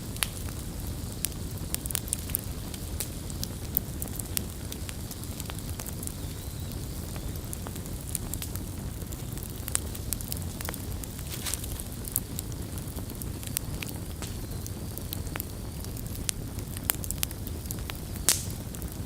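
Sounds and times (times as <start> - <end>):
campfire crackling and popping: 0.0 - 19.0
low rumble of flames: 0.0 - 19.0.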